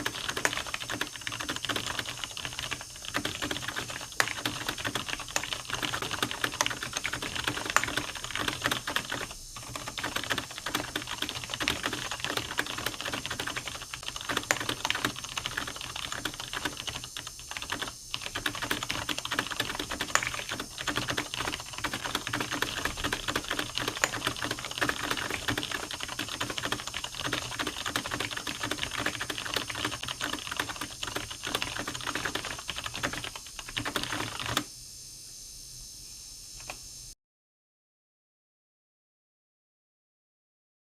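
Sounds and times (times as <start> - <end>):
typing on computer keyboard: 0.0 - 34.7.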